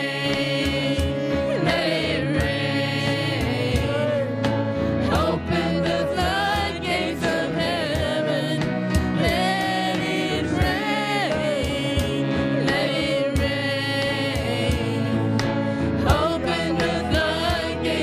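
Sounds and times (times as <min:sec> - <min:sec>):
band with steady drum beat: 0:00.0 - 0:18.0
voices singing gospel: 0:00.0 - 0:18.0.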